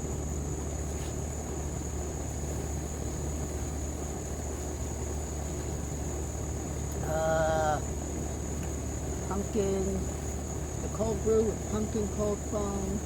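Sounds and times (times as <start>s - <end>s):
grill fan humming: 0.0s - 13.0s
insect trill: 0.0s - 13.0s.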